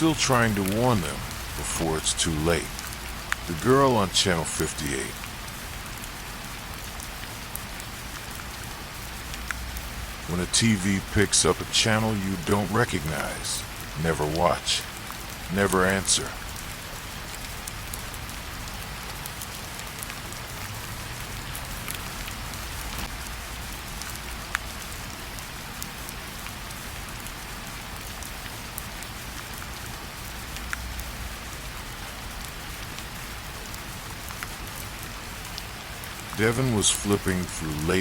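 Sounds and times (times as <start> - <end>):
raindrops ticking: 0.0 - 38.0
steady rain hiss: 0.0 - 38.0.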